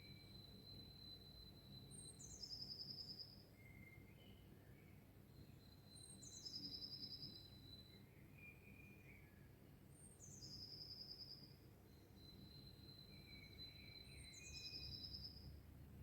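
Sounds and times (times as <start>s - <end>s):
bird song with fast trill: 0.0s - 4.5s, 5.3s - 9.4s, 10.0s - 15.6s.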